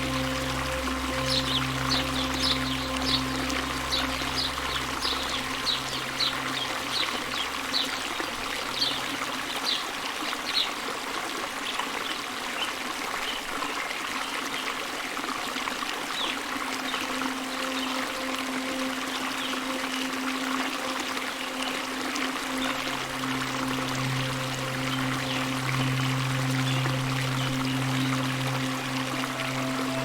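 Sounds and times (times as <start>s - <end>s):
low sustained music tones: 0.0s - 10.4s, 15.2s - 30.0s
stream trickling: 0.0s - 30.0s.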